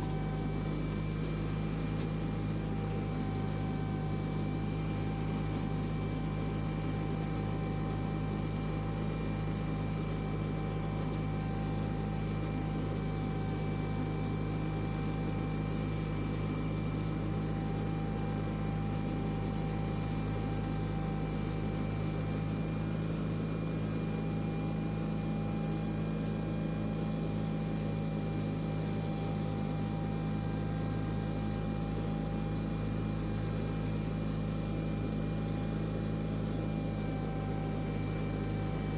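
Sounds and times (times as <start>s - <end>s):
garden tractor engine droning: 0.0s - 38.9s
thin steady whine: 0.0s - 38.9s.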